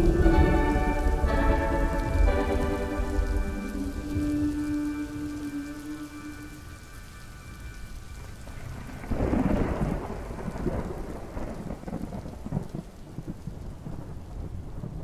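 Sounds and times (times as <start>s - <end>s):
steady rain: 0.0s - 15.0s
thunder clap and rumble: 0.0s - 15.0s.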